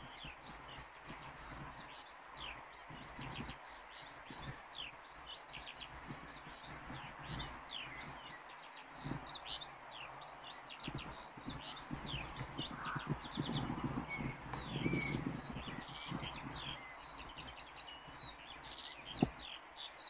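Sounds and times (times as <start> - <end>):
small birds chirping: 0.0 - 20.0
wind rumble on microphone: 0.0 - 20.0.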